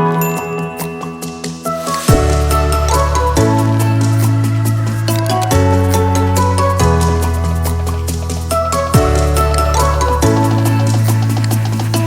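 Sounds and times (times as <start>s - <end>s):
instrumental music over a beat: 0.0s - 12.0s
deep bass: 2.1s - 12.0s.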